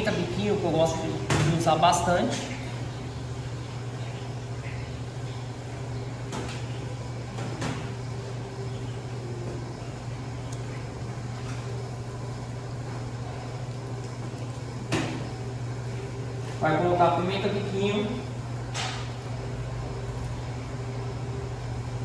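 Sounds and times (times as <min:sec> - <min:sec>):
kitchen ventilation hum: 0:00.0 - 0:22.0.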